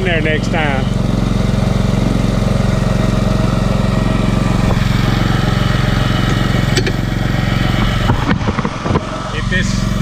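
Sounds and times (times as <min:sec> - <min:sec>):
utility vehicle engine idling: 0:00.0 - 0:10.0.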